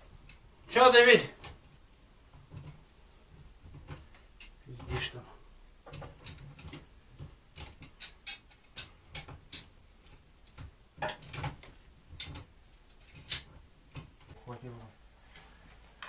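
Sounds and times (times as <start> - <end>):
gas welding crackles: 0.0 - 14.9.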